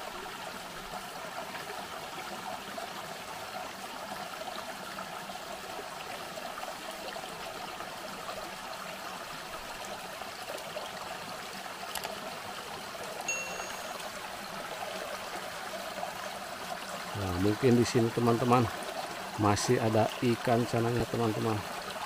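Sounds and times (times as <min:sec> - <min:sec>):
creek water trickling: 0:00.0 - 0:22.0.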